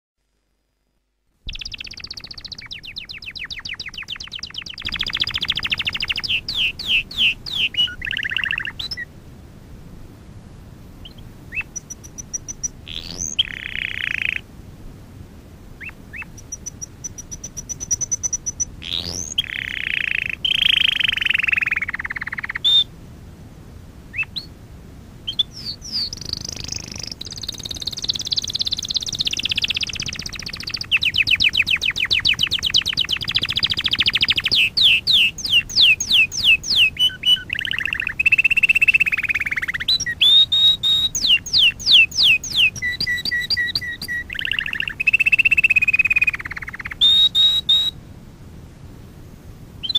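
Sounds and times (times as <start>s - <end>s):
canary singing trills: 1.5s - 9.1s, 11.0s - 14.5s, 15.8s - 22.9s, 24.1s - 24.5s, 25.2s - 48.0s.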